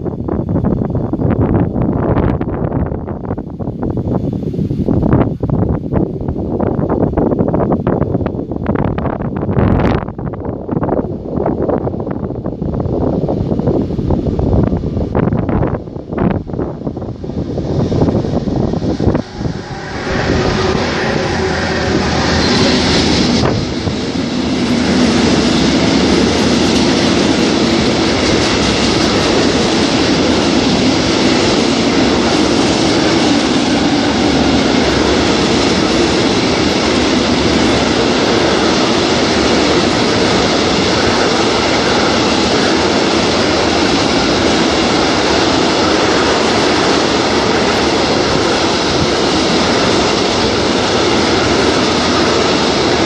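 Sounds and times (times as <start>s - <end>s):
electric locomotives passing: 0.0s - 53.0s
steel wheels rolling on rails: 0.1s - 53.0s.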